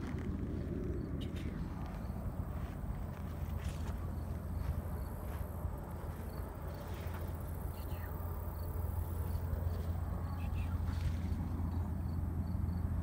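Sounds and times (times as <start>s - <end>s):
steady low rumble: 0.0s - 13.0s
faint high insect chirps: 0.6s - 13.0s.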